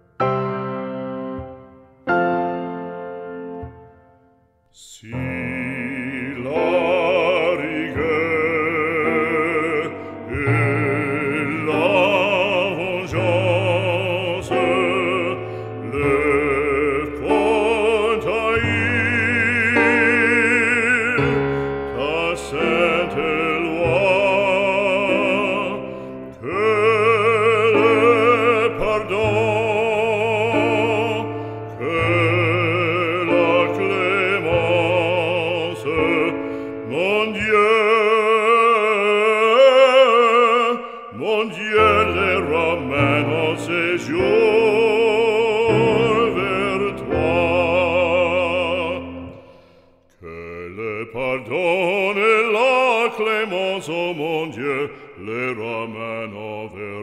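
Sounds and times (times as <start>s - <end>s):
operatic voice singing: 4.7s - 57.0s.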